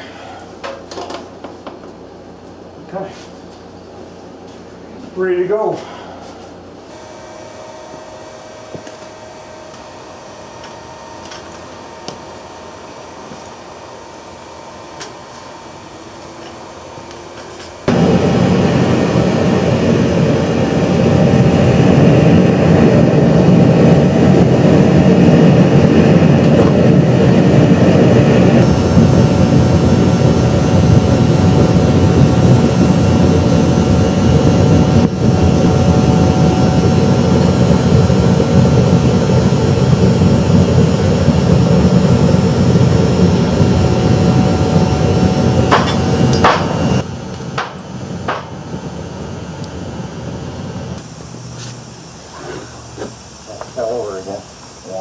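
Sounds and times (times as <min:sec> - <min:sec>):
loud steady machine noise: 0:03.7 - 0:55.0.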